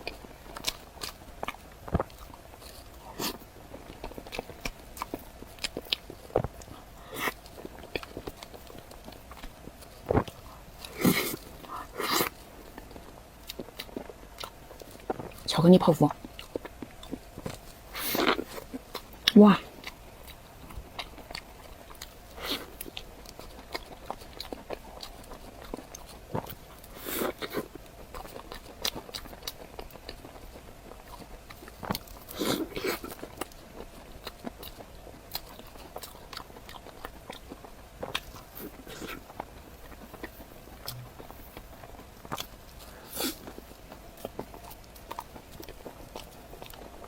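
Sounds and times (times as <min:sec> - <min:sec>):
biting and chewing: 0:00.0 - 0:47.0.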